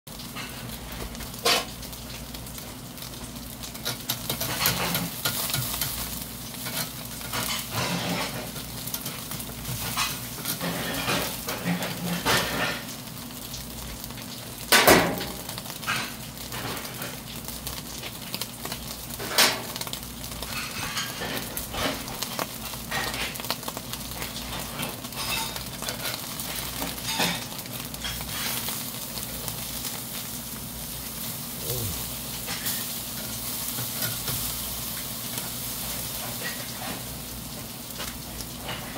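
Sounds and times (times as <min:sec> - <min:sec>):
fish sizzling on charcoal grill: 0:00.1 - 0:38.9.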